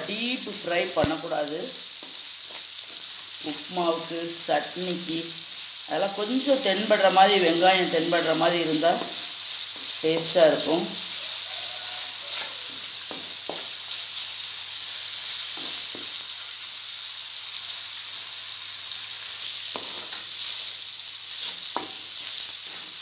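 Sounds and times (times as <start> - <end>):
vegetables sizzling in hot oil: 0.0 - 23.0.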